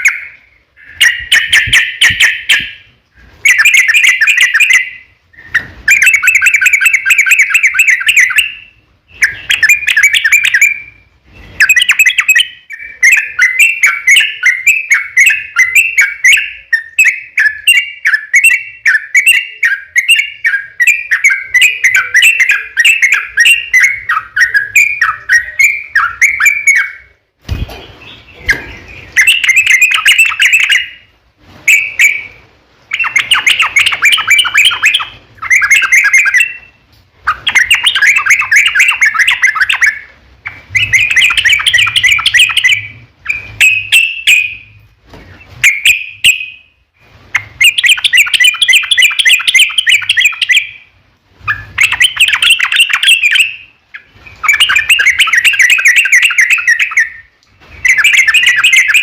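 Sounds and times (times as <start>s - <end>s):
bird chattering and chirping: 0.0s - 31.1s, 31.7s - 44.7s, 47.3s - 59.0s.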